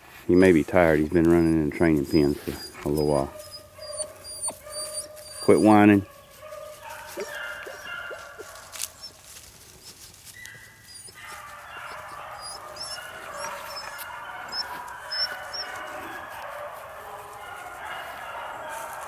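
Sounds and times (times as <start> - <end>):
dogs baying: 0.8 - 19.0.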